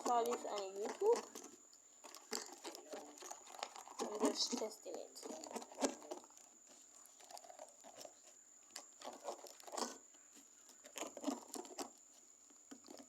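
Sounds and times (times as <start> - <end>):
utensil stirring sticky slime: 0.0 - 13.0.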